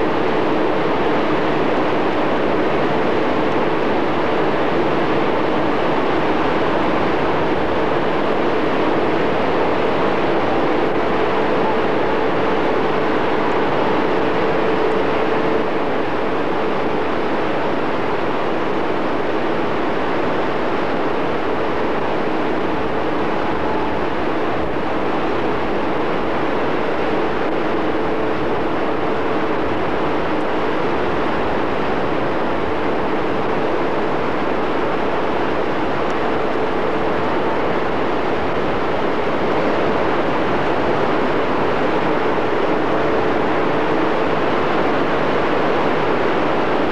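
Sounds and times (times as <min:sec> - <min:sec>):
faint hum: 0:00.0 - 0:46.9.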